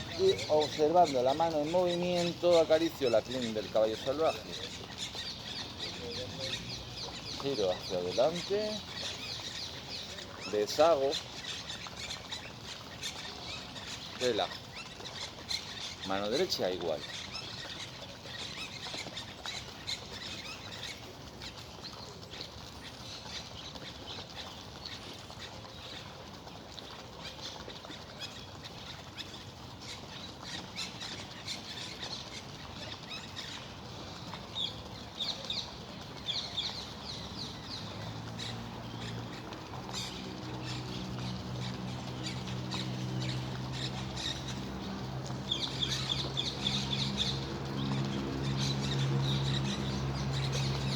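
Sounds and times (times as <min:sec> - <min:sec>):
birds chirping: 0:00.0 - 0:50.9
fountain water rushing: 0:00.0 - 0:50.9.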